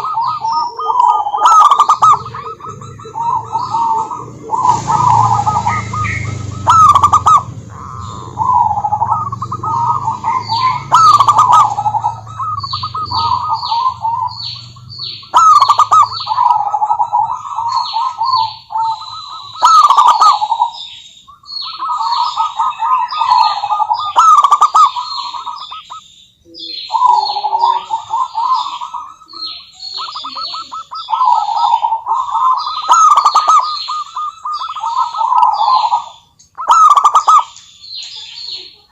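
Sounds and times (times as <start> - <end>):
doves trilled cooing: 0.0 - 38.9.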